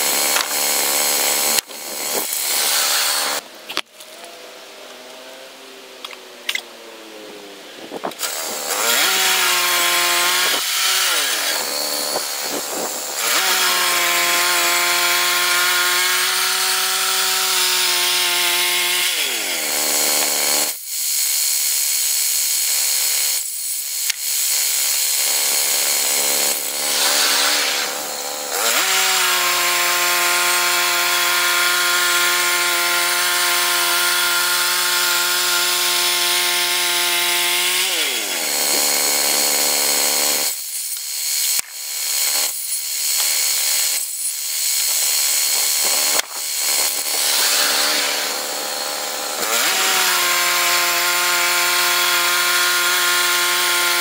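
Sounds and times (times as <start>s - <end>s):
band blade cutting log: 0.0s - 4.4s, 7.9s - 54.0s
bandsaw mill engine running: 8.1s - 54.0s.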